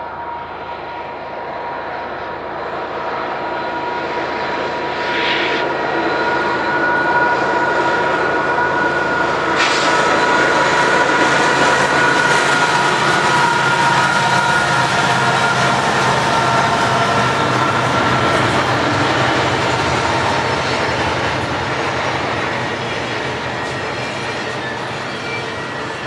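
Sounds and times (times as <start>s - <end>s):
diesel locomotive engines: 0.0s - 26.0s
steady high whine: 0.0s - 26.0s.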